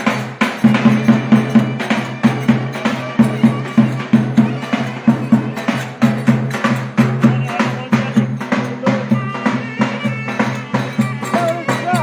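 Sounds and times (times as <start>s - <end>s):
hand drum beat: 0.0s - 12.0s
sharp clicking percussion: 0.0s - 12.0s.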